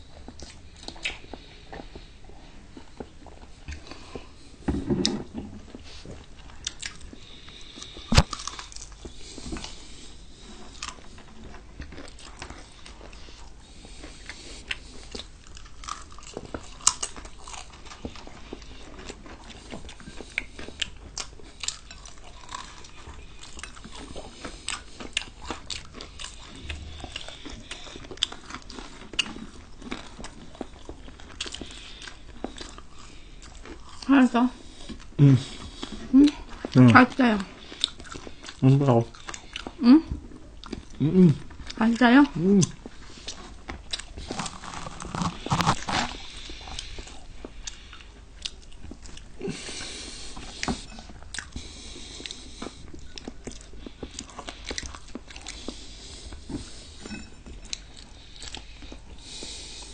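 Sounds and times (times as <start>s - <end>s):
chewing and crunching fried food: 0.0s - 59.9s.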